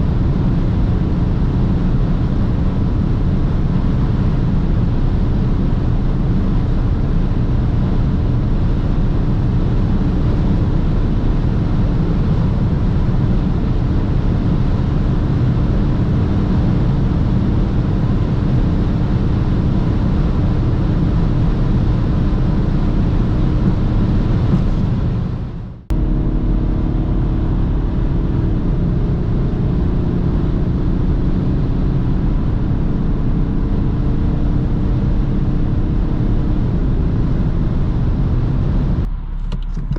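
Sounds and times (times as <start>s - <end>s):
diesel car engine droning: 0.0s - 39.9s
wind noise: 0.0s - 39.9s.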